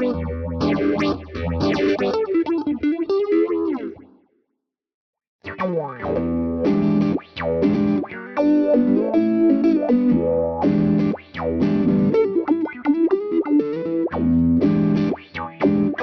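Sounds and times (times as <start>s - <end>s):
distorted electric guitar: 0.0s - 4.0s, 5.5s - 16.0s.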